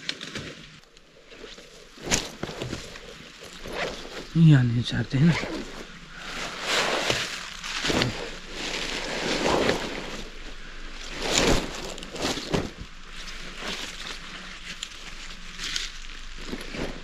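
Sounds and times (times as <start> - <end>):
leaves and fabric rustling: 0.0 - 17.0.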